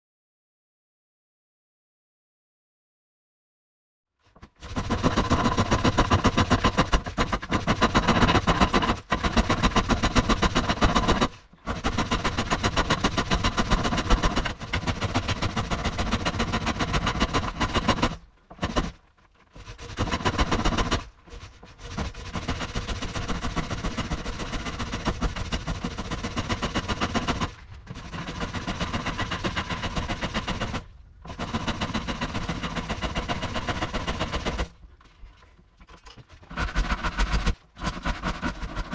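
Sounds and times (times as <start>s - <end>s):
pole lathe rapid clatter: 4.4s - 19.0s, 19.6s - 34.8s, 36.5s - 38.9s.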